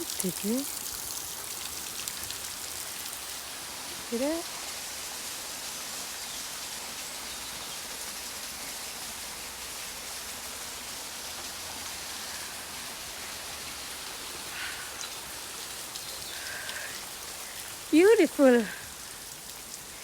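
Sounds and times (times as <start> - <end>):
water dripping and trickling: 0.0 - 20.0.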